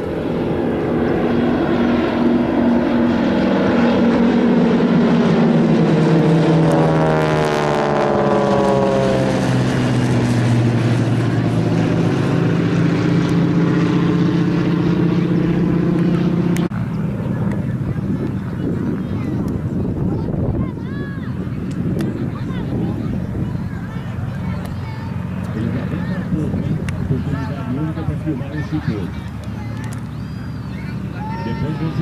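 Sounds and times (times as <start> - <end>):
propeller planes droning overhead: 0.0 - 32.0.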